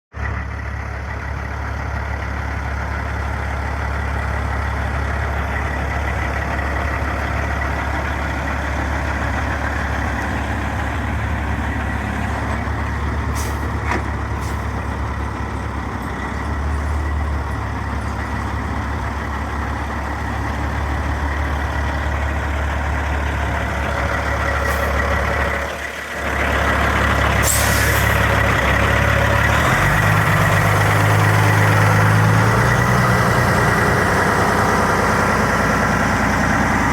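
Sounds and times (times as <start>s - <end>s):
truck diesel engine idling: 0.1s - 36.9s.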